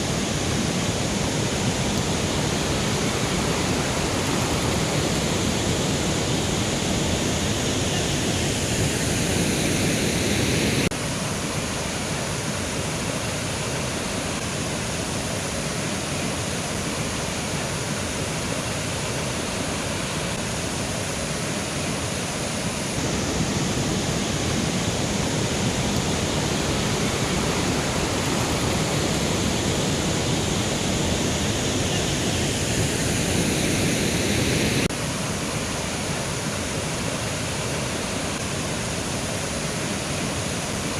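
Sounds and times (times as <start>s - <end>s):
river running over rocks: 0.0s - 40.9s.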